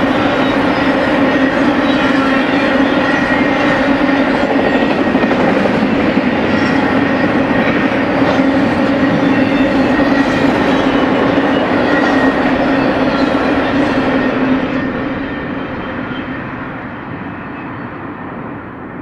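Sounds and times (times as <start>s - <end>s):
freight train wheels rolling on rail: 0.0s - 19.0s.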